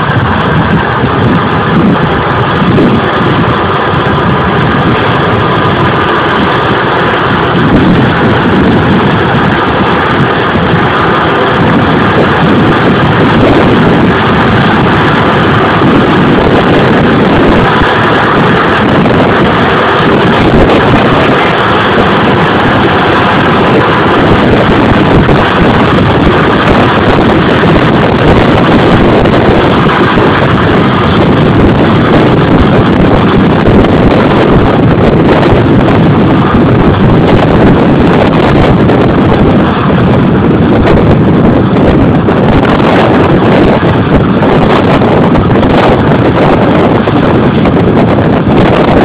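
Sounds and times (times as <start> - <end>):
combine harvester running: 0.0 - 49.0
wind buffeting microphone: 0.0 - 49.0.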